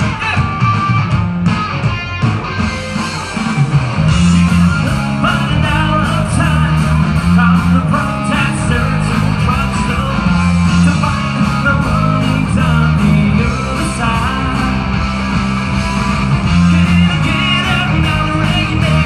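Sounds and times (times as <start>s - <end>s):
electric guitar: 0.0s - 19.0s
live band playing: 0.0s - 19.0s.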